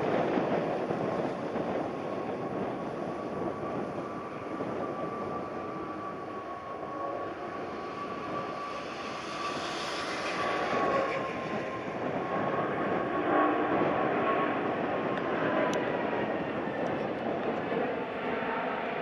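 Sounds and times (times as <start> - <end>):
jet engines whining and rushing: 0.0 - 19.0.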